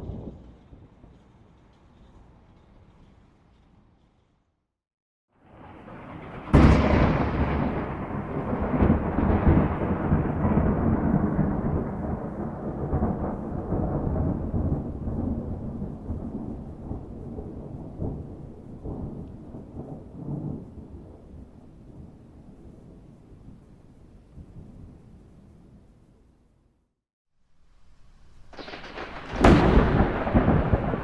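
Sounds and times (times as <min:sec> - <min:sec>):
thunder crack and rumble: 0:00.0 - 0:02.4, 0:05.4 - 0:25.9, 0:27.9 - 0:31.0.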